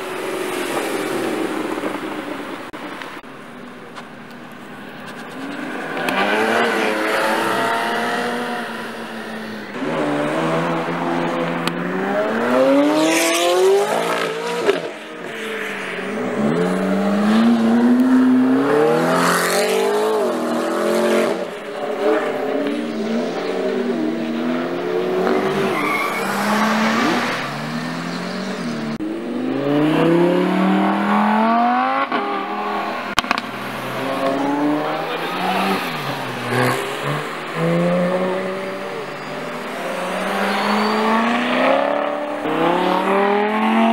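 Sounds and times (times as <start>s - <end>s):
sports car engines revving: 0.0s - 43.9s.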